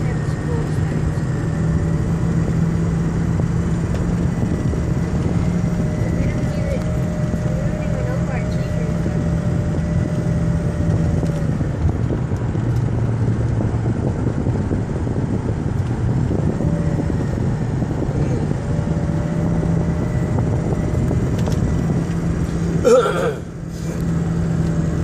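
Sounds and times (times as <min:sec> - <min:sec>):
diesel engine running: 0:00.0 - 0:25.0
fan clutch noise: 0:00.0 - 0:25.0.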